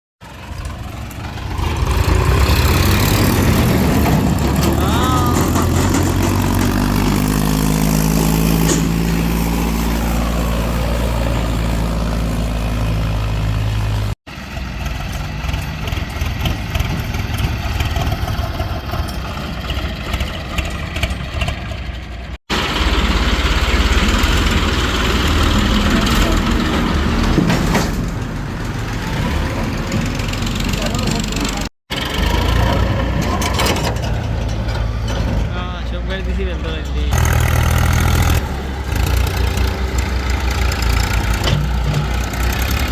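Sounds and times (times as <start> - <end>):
diesel tractor engine revving: 0.2 - 42.9.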